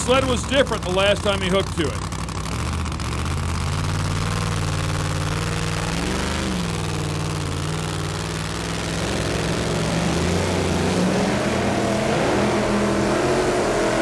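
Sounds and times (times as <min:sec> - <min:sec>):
truck engine at low revs: 0:00.0 - 0:14.0.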